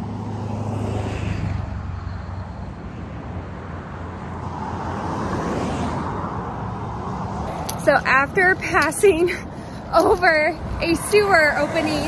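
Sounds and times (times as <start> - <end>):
traffic rumble on busy road: 0.0 - 12.0.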